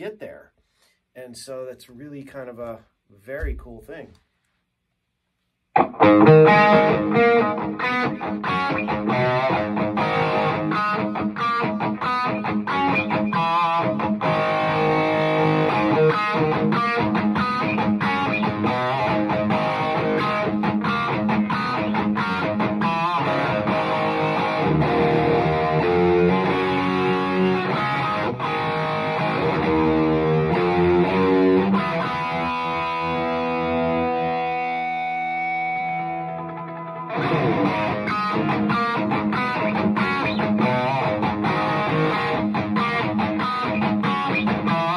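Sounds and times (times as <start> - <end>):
electric guitar playing: 5.8 - 44.9.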